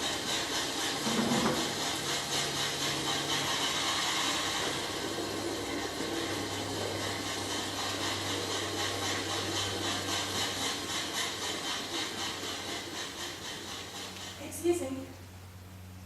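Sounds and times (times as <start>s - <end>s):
train rushing noise: 0.0s - 15.1s
rhythmic train wheel beat: 0.0s - 15.6s.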